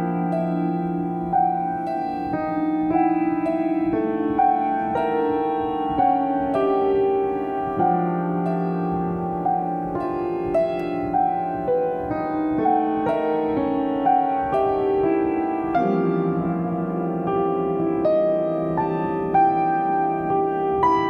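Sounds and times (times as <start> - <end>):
slow piano notes: 0.0 - 21.0.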